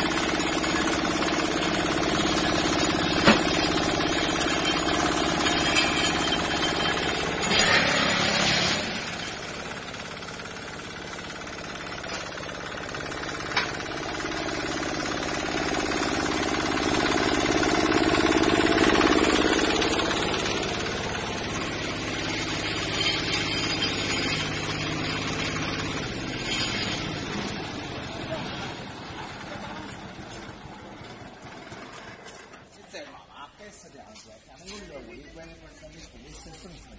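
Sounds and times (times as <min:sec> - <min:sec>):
machine vibration: 0:00.0 - 0:32.7
small diesel engine running: 0:00.0 - 0:33.2.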